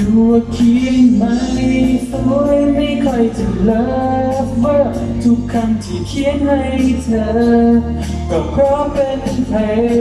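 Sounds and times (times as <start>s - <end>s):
instrumental accompaniment: 0.0s - 10.0s
man singing into microphone: 0.0s - 10.0s.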